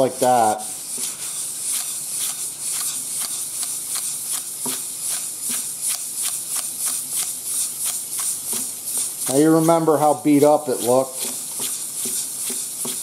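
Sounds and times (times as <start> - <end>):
sandpaper rubbing on metal: 0.0 - 13.0.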